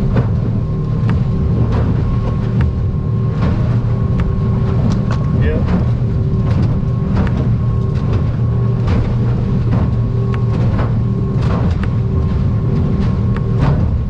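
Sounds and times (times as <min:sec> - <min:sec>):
hull slapping over chop: 0:00.0 - 0:14.0
outboard motor droning: 0:00.0 - 0:14.0.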